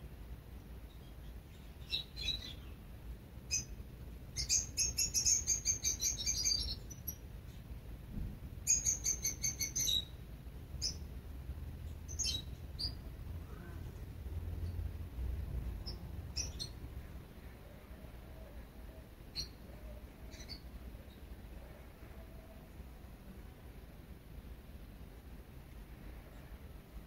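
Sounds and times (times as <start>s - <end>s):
small songbirds chirping: 0.3s - 7.9s, 8.5s - 22.9s.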